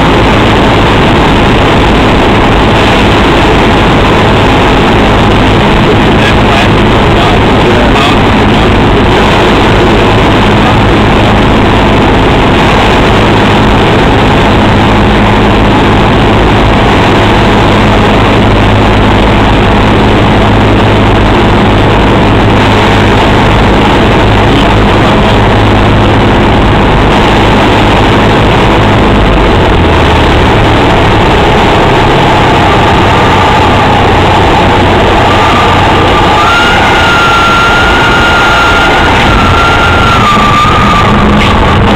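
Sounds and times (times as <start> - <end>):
propeller plane engine from cabin: 0.0 - 41.9
wind rush: 0.0 - 41.9.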